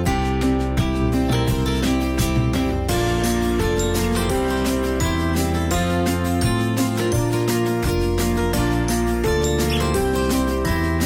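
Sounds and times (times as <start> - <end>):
plucked guitar over a beat: 0.0 - 11.0.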